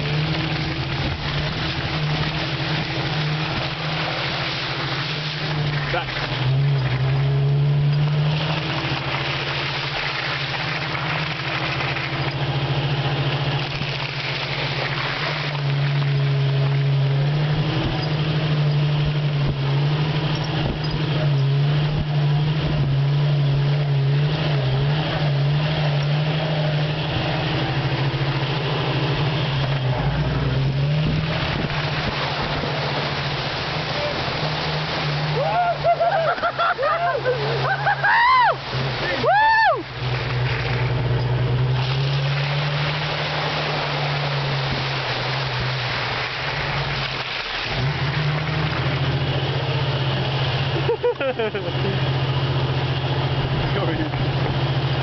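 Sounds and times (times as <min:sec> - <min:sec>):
mud splashing: 0:00.0 - 0:55.0
off-road vehicle engine revving: 0:00.0 - 0:55.0.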